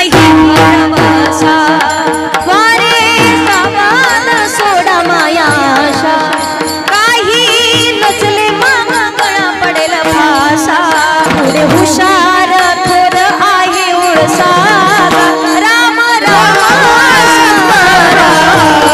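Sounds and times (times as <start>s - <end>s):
drum accompaniment: 0.0s - 18.9s
woman singing devotional song: 0.0s - 18.9s.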